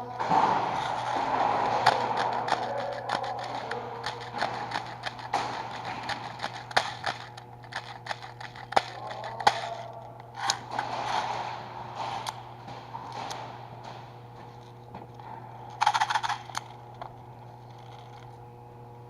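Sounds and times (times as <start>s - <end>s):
airsoft guns firing: 0.2s - 17.2s.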